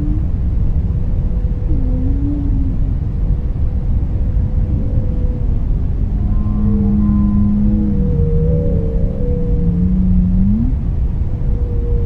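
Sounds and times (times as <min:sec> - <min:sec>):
deep underwater rumble: 0:00.0 - 0:12.0
whale call: 0:01.4 - 0:12.0.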